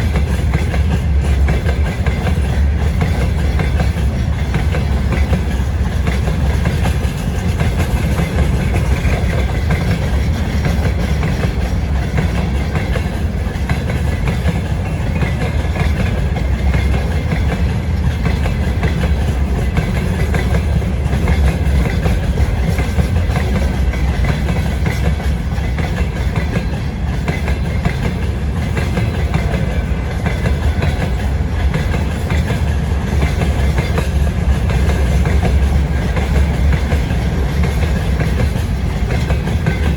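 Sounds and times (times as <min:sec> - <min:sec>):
low train rumble: 0:00.0 - 0:39.9
train wheels clattering: 0:00.0 - 0:39.9.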